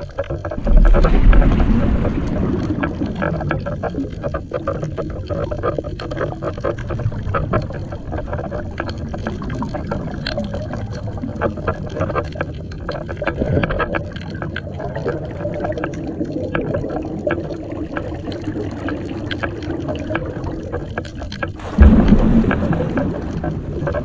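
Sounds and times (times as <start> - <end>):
low underwater rumble: 0.0 - 24.0
sharp clicks and crackles: 0.0 - 24.0.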